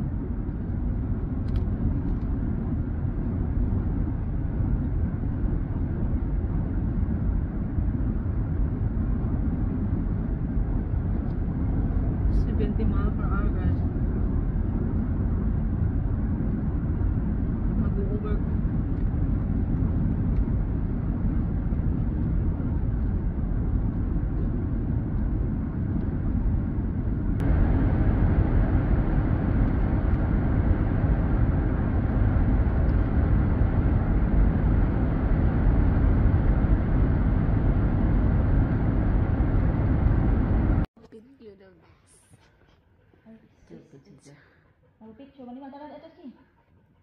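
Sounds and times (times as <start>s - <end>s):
car road and engine noise: 0.0s - 41.0s.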